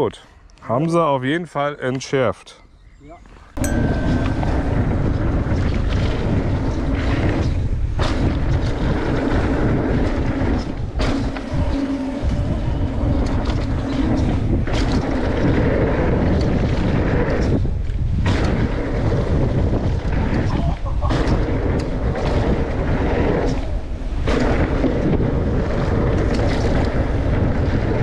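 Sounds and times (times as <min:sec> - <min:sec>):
bike rattling over bumps: 0:03.6 - 0:28.0
wind on microphone: 0:03.6 - 0:28.0
tyres rumbling on dirt: 0:04.1 - 0:28.0.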